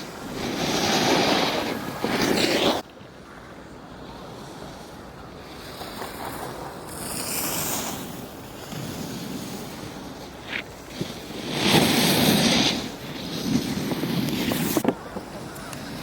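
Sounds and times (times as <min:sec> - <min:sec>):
ski edges scraping snow: 0:00.0 - 0:02.8, 0:05.6 - 0:16.0
skis gliding hiss: 0:00.0 - 0:02.8, 0:04.1 - 0:16.0.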